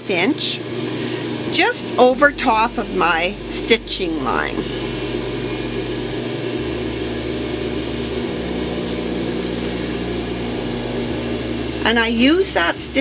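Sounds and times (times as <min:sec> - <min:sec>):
machine hum: 0:00.6 - 0:13.0.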